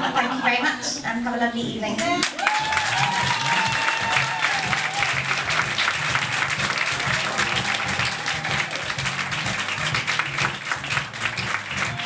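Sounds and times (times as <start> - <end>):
background music: 0.0 - 12.0
audience applauding and cheering: 2.0 - 12.0.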